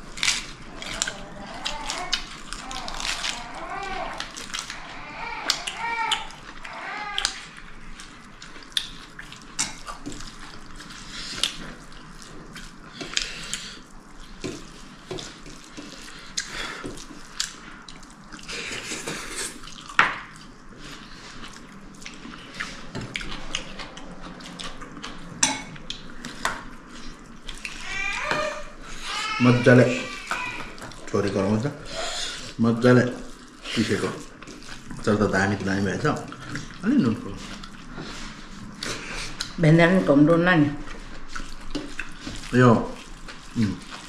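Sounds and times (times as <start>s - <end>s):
wet food handling sounds: 0.0s - 39.6s, 40.8s - 44.0s.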